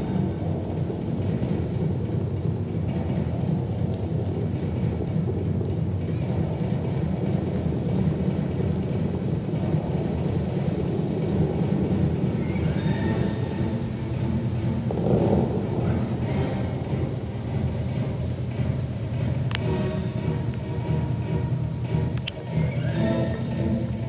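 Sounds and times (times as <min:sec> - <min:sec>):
water jets crashing onto lake: 0:00.0 - 0:22.2.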